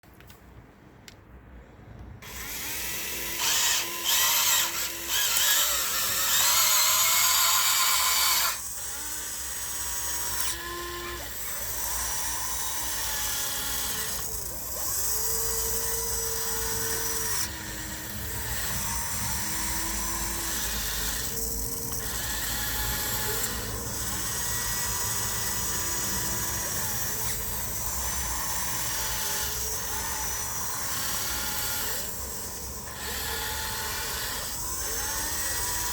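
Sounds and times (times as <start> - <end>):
small electric motors whining: 2.2 - 35.9.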